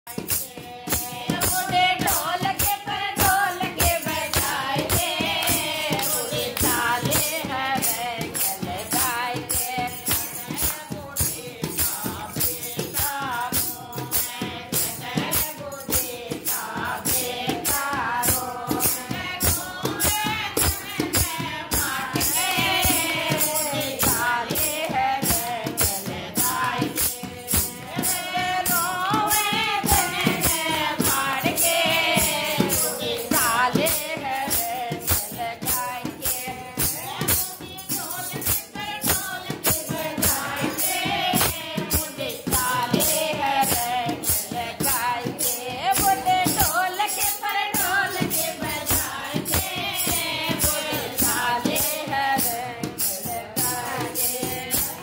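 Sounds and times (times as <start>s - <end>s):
bright percussion beat: 0.0s - 55.0s
woman singing devotional song: 0.1s - 55.0s.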